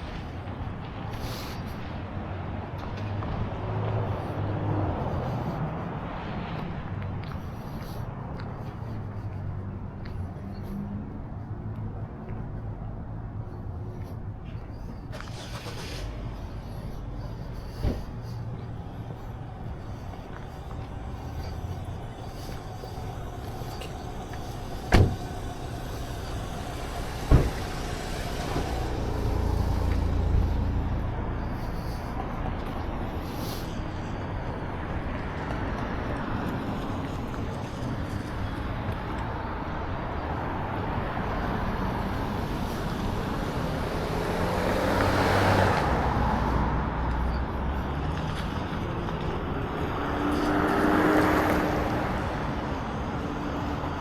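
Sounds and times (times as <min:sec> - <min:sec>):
cars driving past: 0:00.0 - 0:54.0
steady traffic noise: 0:00.0 - 0:54.0.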